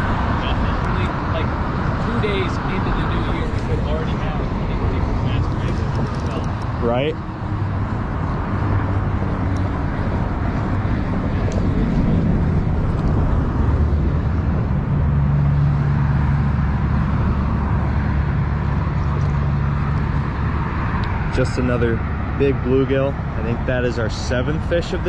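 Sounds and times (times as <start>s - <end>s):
deep vehicle engine hum: 0.0s - 25.0s
road traffic noise: 0.0s - 25.0s.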